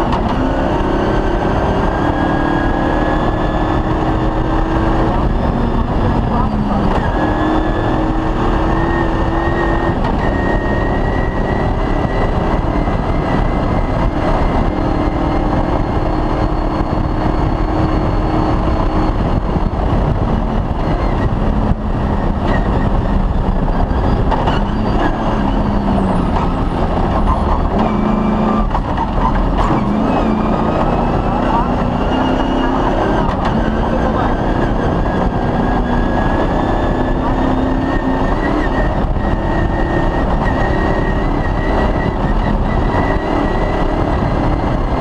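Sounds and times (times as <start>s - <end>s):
rally car engine at speed: 0.0s - 45.0s.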